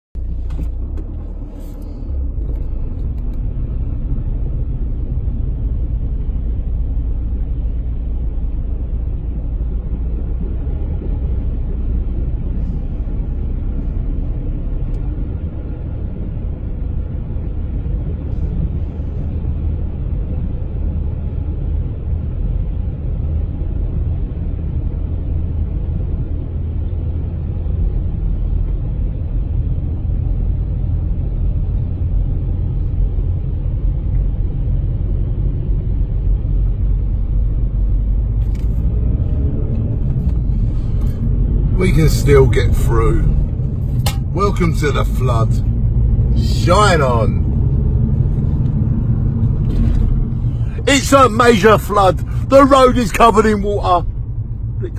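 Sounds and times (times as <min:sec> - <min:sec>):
car driving through flood water: 0:00.3 - 0:54.9.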